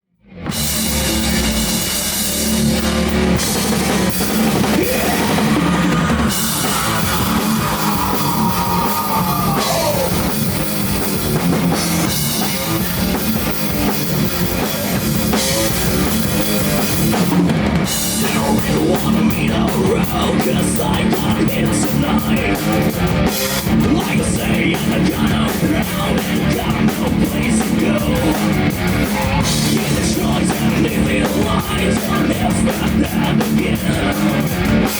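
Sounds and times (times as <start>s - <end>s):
rock band playing: 0.2s - 34.9s.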